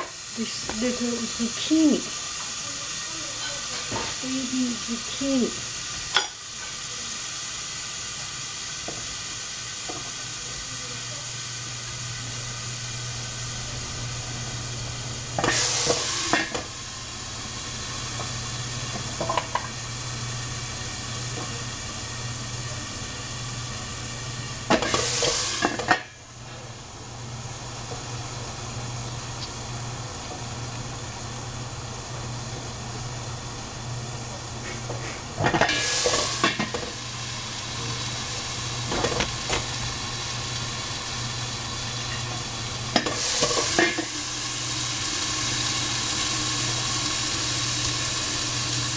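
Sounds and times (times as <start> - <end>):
mushrooms sizzling in a pan: 0.0 - 48.9.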